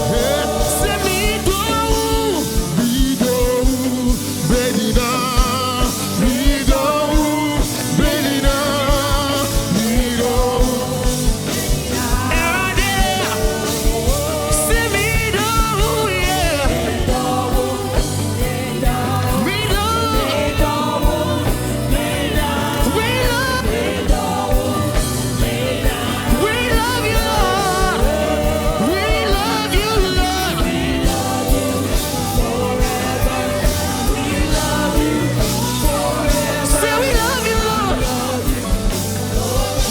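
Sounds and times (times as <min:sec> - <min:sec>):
bass: 0:00.0 - 0:39.9
person singing ornamented vocals: 0:00.0 - 0:39.9
steady drum beat: 0:00.0 - 0:39.9.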